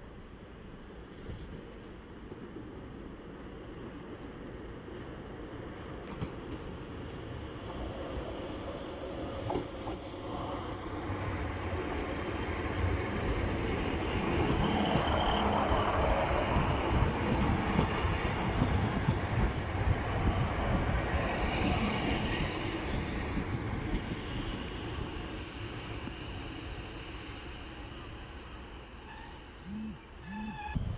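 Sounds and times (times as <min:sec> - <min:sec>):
train rumbling along track: 0:00.2 - 0:30.9.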